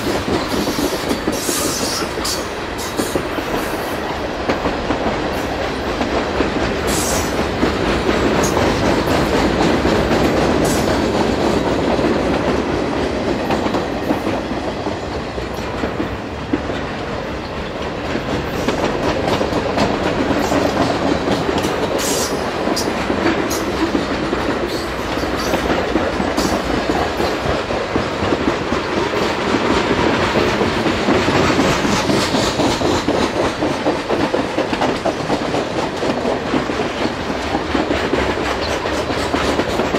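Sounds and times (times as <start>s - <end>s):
freight train rolling past: 0.0s - 39.9s
steel wheels rattling on rail joints: 0.0s - 39.9s.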